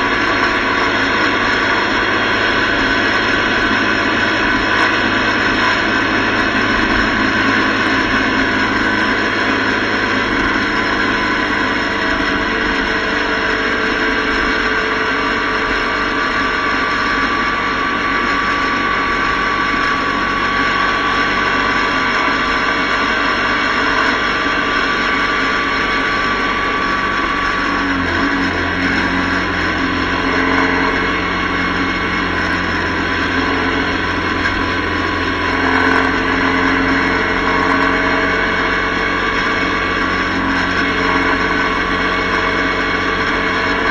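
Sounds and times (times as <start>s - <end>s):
motorcycle engine running: 0.0s - 43.9s
road noise: 0.0s - 43.9s.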